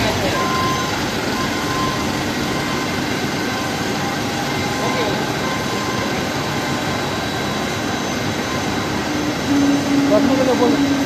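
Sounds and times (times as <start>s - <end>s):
forklift diesel engine running: 0.0s - 11.0s.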